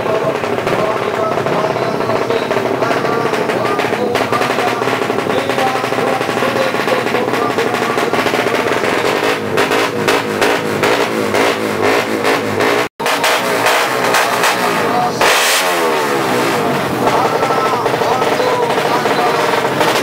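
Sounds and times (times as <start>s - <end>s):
crackling exhaust rattle: 0.0s - 20.0s
motorcycle engines revving: 0.0s - 20.0s.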